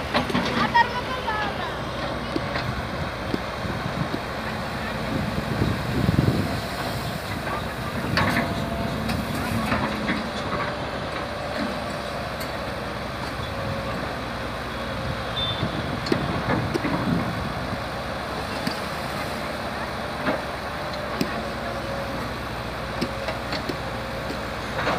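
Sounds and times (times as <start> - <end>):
engine running: 0.0 - 24.9.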